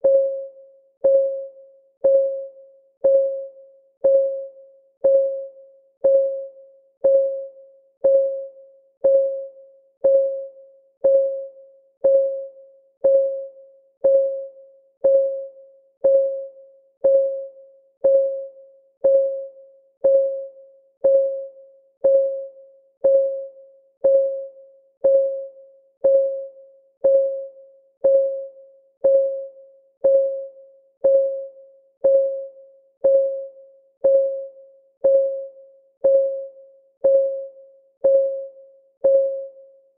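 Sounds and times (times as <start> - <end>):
timer ticking: 1.0 - 39.5.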